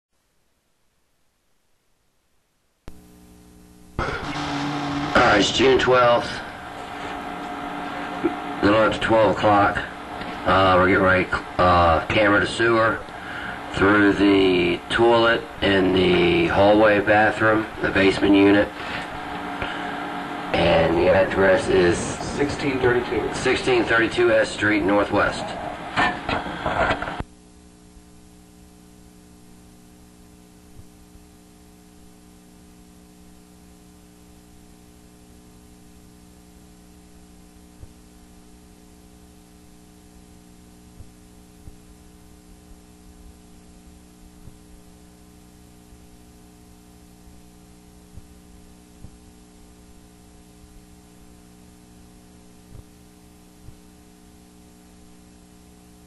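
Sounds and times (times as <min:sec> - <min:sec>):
steady electrical hum: 0:00.2 - 0:56.0.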